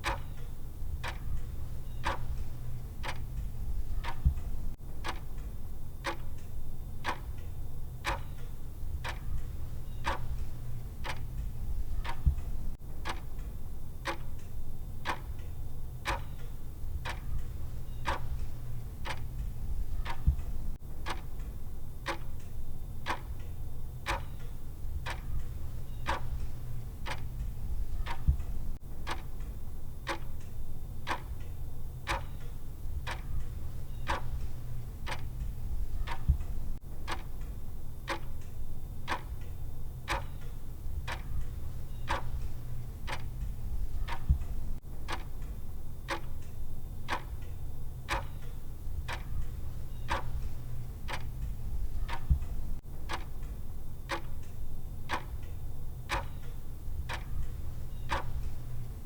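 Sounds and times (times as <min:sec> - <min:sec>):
clock ticking: 0:00.0 - 0:59.0
low steady hum: 0:00.0 - 0:59.0.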